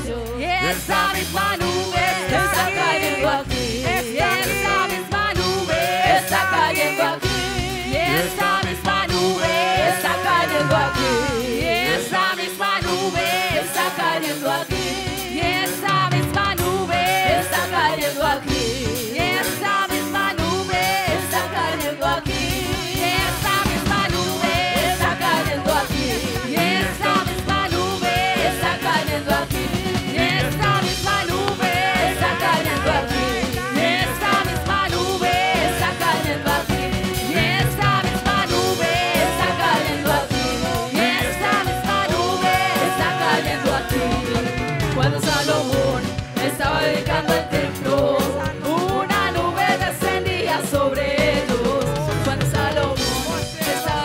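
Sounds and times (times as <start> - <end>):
electric bass: 0.0 - 13.6, 14.7 - 54.0
backing singers: 0.0 - 54.0
percussion: 0.0 - 54.0
woman singing praise song: 0.0 - 54.0.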